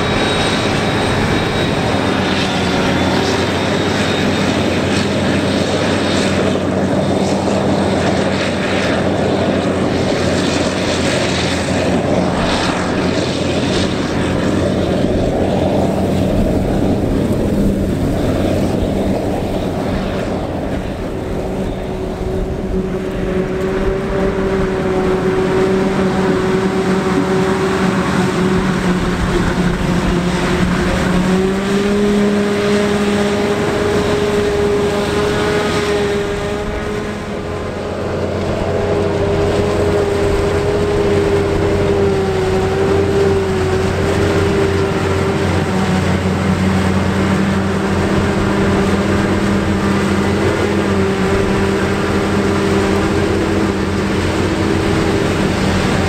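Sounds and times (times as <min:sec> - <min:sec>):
deeper hum: 0:00.0 - 0:56.0
harvester machine drone: 0:00.0 - 0:56.0.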